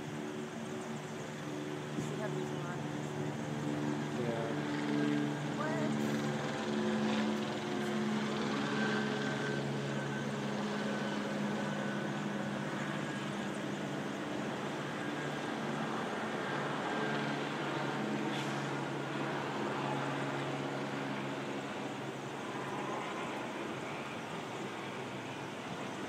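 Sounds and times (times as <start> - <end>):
aircraft drone overhead: 0.0 - 26.0
city background noise: 0.0 - 26.0.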